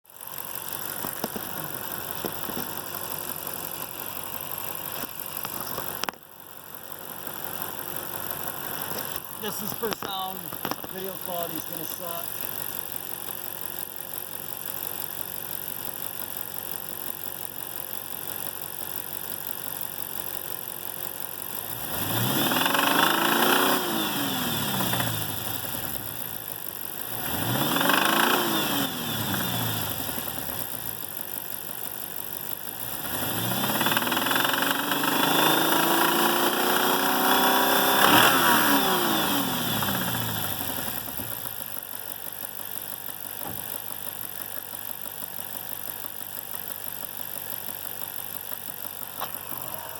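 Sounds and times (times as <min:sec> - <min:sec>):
engine knock: 0:00.1 - 0:23.8, 0:24.5 - 0:37.1, 0:39.2 - 0:49.9
car engine idling and revving: 0:00.1 - 0:49.9.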